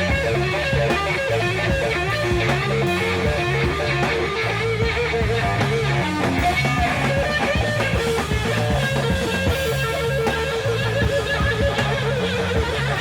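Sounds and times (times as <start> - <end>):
bass guitar: 0.0 - 13.0
drums: 0.0 - 13.0
electric guitar long notes: 0.0 - 13.0.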